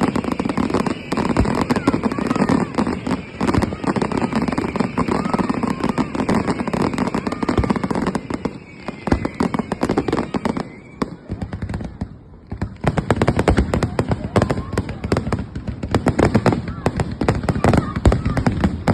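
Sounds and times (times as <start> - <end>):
fireworks crackling and banging: 0.0 - 18.9.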